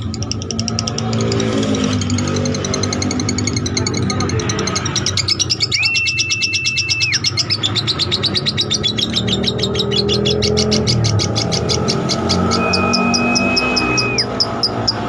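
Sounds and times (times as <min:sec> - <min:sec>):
lovebird chattering: 0:00.0 - 0:15.0.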